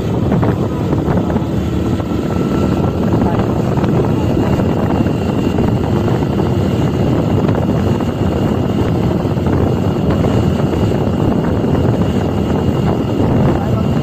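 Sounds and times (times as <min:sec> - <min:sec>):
motorcycle engine running: 0:00.0 - 0:14.0
wind rushing on microphone: 0:00.0 - 0:14.0.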